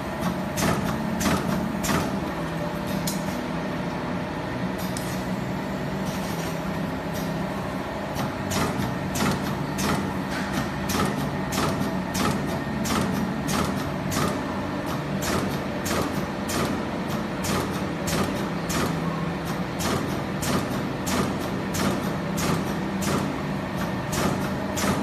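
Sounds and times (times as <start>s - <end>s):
punching machine humming: 0.0s - 25.0s.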